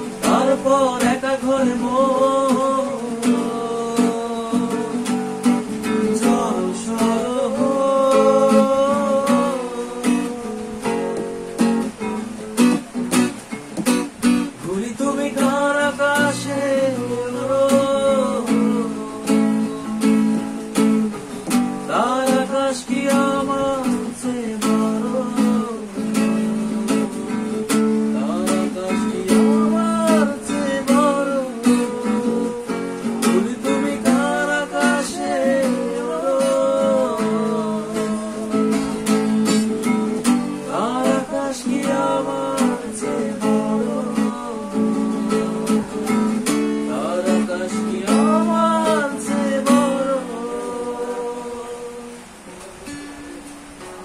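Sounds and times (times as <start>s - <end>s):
man singing slow song: 0.0s - 12.7s, 14.2s - 54.0s
acoustic guitar strumming: 0.0s - 54.0s.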